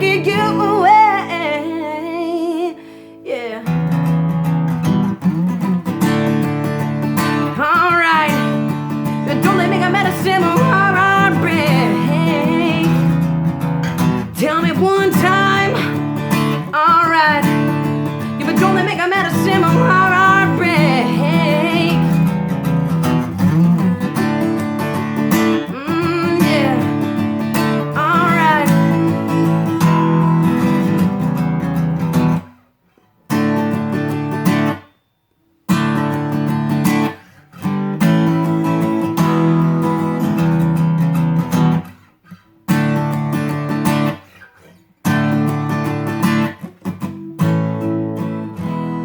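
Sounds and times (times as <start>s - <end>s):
acoustic guitar strumming chords: 3.1s - 32.6s, 33.3s - 49.0s.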